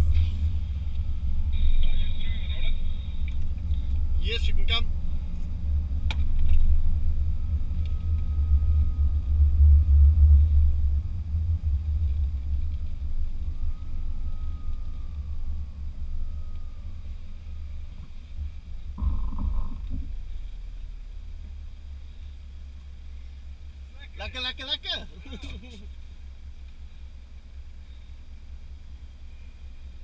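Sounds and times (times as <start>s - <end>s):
vehicle driving on sand rumble: 0.0s - 30.0s.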